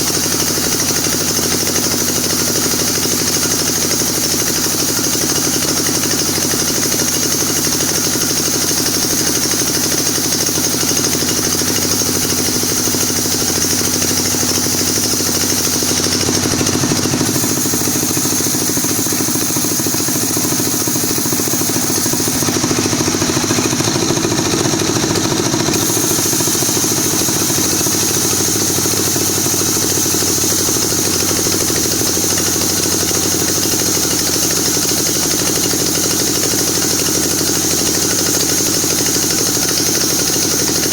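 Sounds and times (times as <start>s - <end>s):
sawmill saw running: 0.0s - 40.9s.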